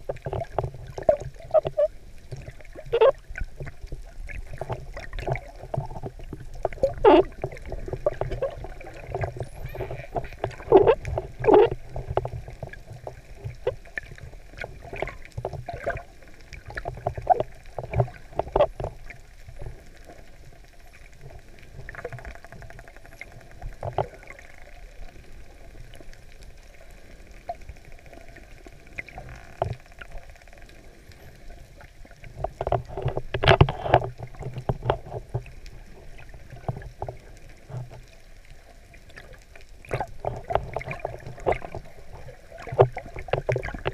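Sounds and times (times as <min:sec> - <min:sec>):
water sloshing underwater: 0:00.0 - 0:43.9.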